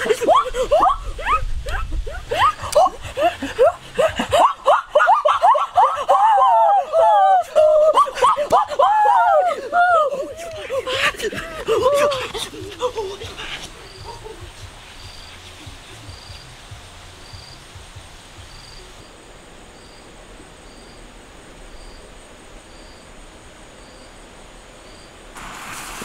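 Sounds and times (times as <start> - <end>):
insect chirping: 0.0 - 26.0
outdoor background hiss: 0.0 - 26.0.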